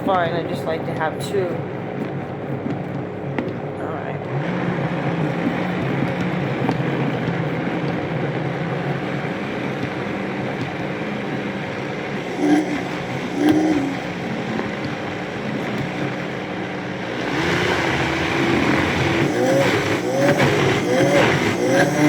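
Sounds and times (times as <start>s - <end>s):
blender motor running: 1.7s - 22.0s.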